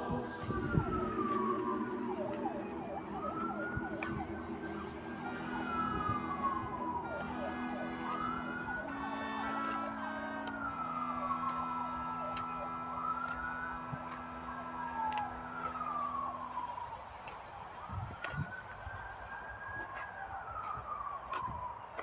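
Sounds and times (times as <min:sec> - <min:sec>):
siren wailing: 0:00.0 - 0:22.0.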